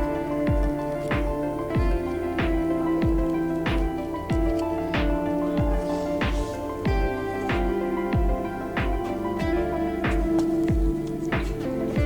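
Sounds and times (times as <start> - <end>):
held chords: 0.0 - 12.0
music with deep kick drum: 0.0 - 12.0.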